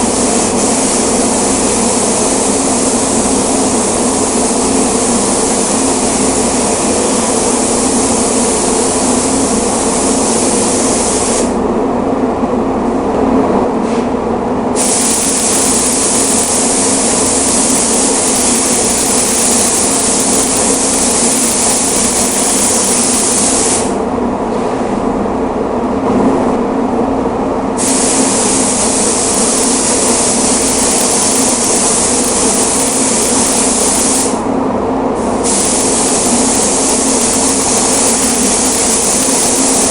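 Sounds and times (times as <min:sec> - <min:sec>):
paint spray gun hissing: 0:00.0 - 0:11.6, 0:14.8 - 0:24.0, 0:27.8 - 0:34.4, 0:35.3 - 0:39.9
steady machine hum: 0:00.0 - 0:39.9.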